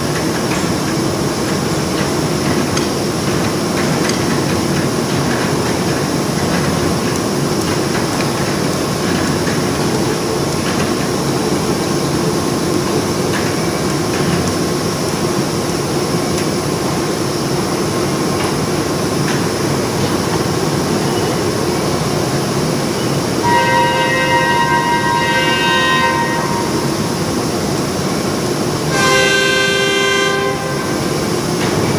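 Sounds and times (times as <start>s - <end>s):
machinery running: 0.0s - 31.9s.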